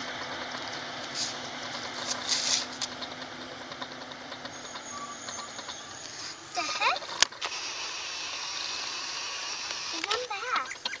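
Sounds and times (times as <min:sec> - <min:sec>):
garbage truck engine running: 0:00.0 - 0:11.0.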